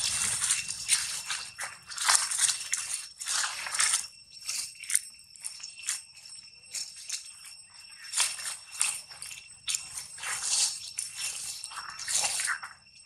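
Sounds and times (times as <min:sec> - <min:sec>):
dry leaves rustling and crunching: 0:00.0 - 0:13.0
faint high ringing: 0:00.0 - 0:13.0.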